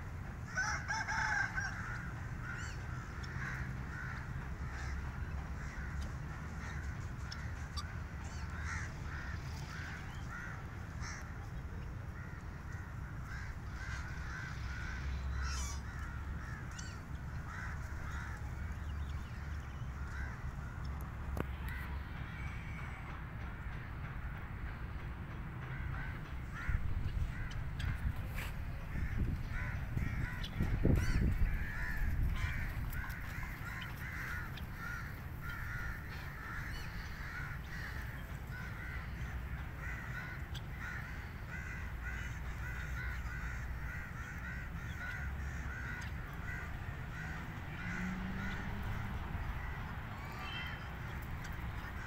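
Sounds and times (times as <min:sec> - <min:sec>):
birds calling: 0:00.6 - 0:23.1, 0:25.6 - 0:52.0.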